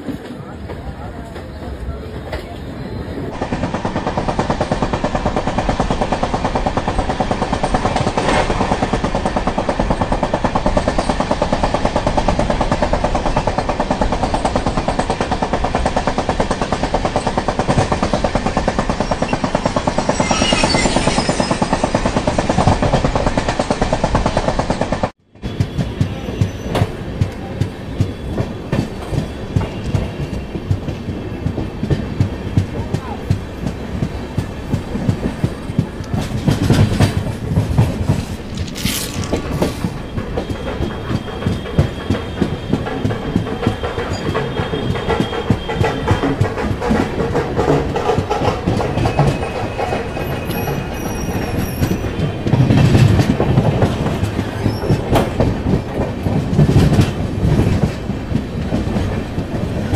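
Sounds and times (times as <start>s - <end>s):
train rumbling at speed: 0.0s - 59.9s
train wheels clattering on rails: 0.0s - 59.9s.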